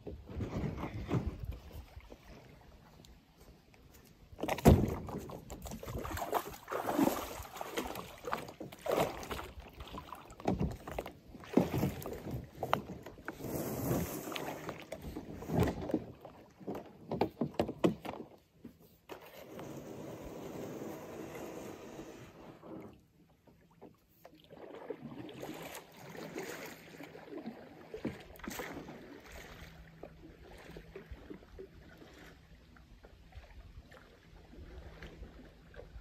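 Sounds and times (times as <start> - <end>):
kayak knocking and scraping: 0.0 - 36.0
paddle strokes in water: 0.0 - 36.0.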